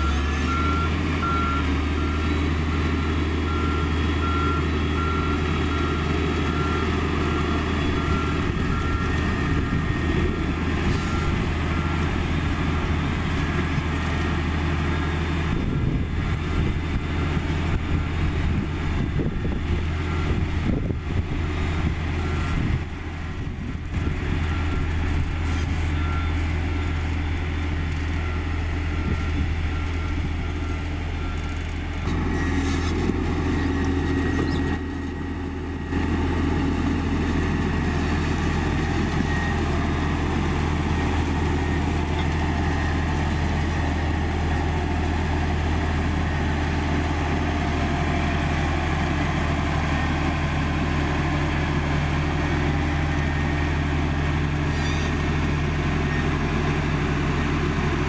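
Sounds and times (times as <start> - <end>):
reversing alarm beeping: 0.0 - 55.2
diesel engine running: 0.0 - 58.0.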